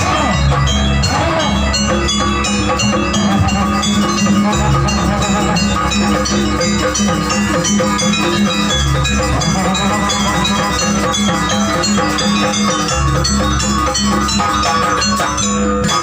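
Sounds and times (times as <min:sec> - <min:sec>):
drumming: 0:00.0 - 0:16.0
metallophone notes: 0:00.0 - 0:16.0.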